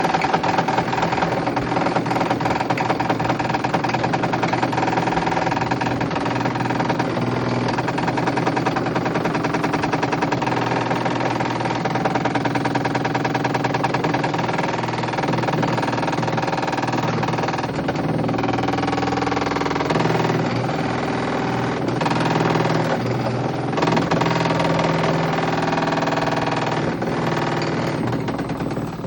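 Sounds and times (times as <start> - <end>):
steady machine hum: 0.0 - 29.0
washing machine rattling: 0.0 - 29.0.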